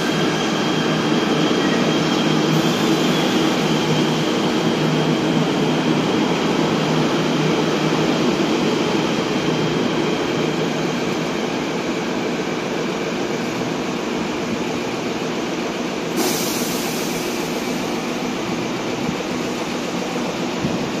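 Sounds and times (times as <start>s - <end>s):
electric train pulling away: 0.0s - 21.0s.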